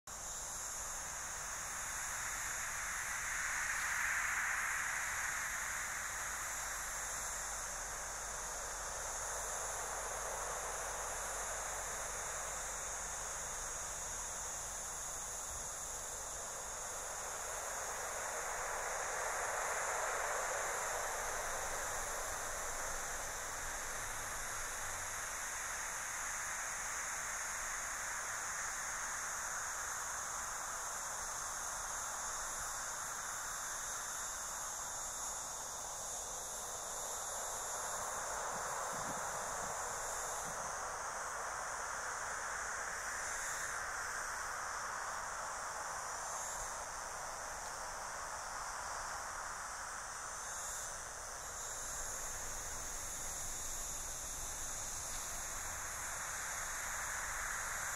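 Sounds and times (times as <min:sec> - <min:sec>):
steady high hiss: 0:00.1 - 0:57.9.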